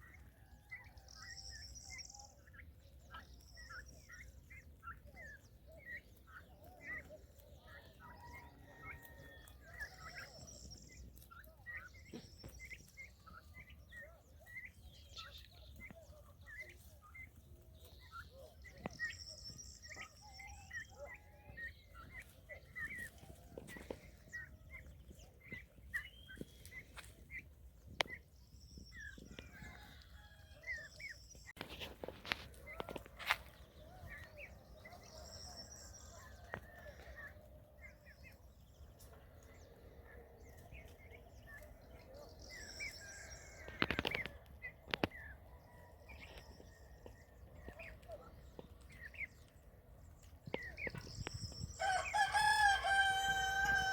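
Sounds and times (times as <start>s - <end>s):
poultry chirping and clucking: 0.0s - 53.9s.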